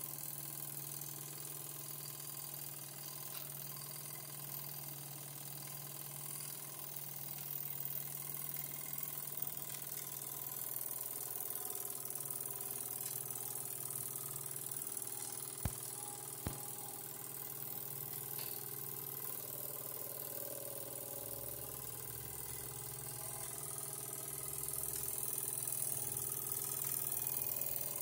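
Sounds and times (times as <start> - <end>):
toy steam engine running: 0.0 - 28.0.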